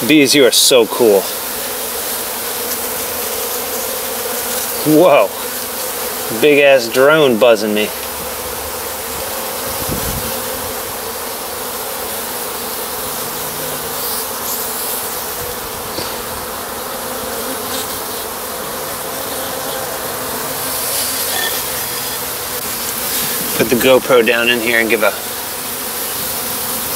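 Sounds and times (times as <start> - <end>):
honeybees buzzing: 0.0 - 26.9
bee flying close: 0.1 - 26.9.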